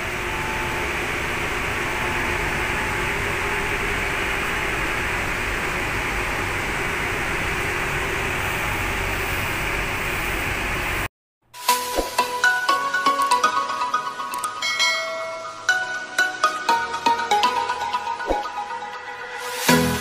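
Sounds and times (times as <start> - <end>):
washing machines running: 0.0 - 11.1, 11.9 - 20.0.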